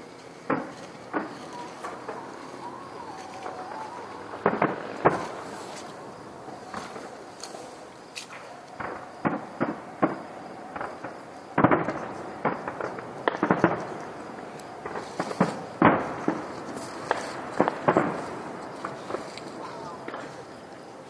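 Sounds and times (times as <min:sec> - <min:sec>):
distant fireworks bangs: 0:00.0 - 0:21.0.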